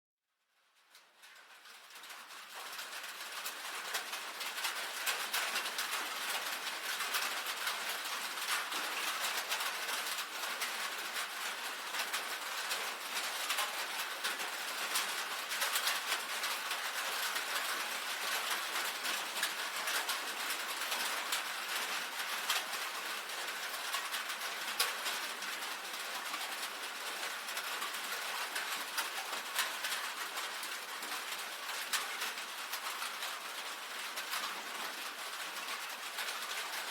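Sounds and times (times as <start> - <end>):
rain on a tin roof: 0.3 - 36.9.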